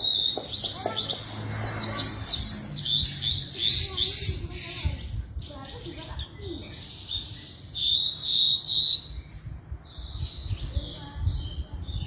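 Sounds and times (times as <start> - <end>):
lark singing chirps and trills: 0.0 - 12.0.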